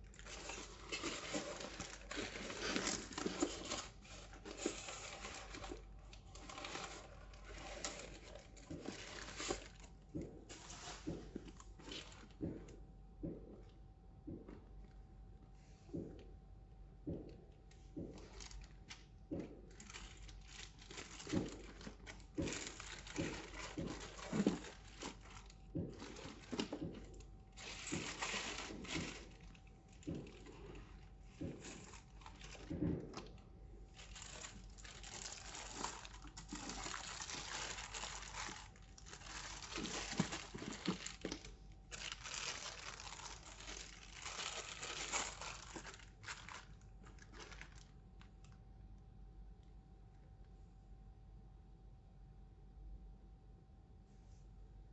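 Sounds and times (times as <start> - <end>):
packaging crinkling and rustling: 0.0 - 13.7, 17.0 - 48.6.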